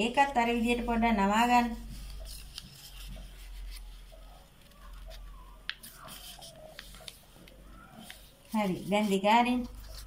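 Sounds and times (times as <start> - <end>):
paper rubbing and rustling: 1.7 - 10.0.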